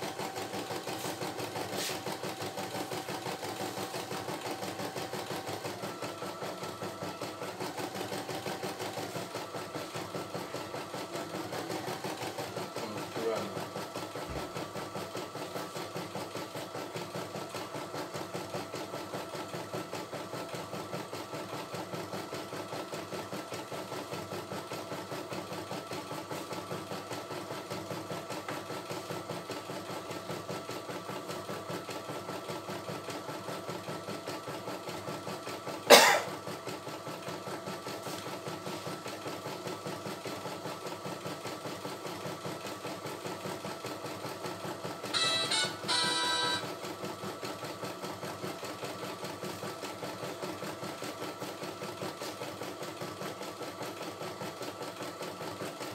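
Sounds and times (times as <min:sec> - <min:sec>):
embroidery machine stitching: 0:00.0 - 0:55.9.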